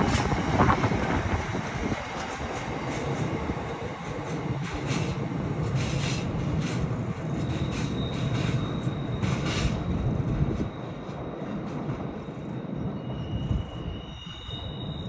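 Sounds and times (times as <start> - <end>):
freight train rumble and clatter: 0.0 - 15.0.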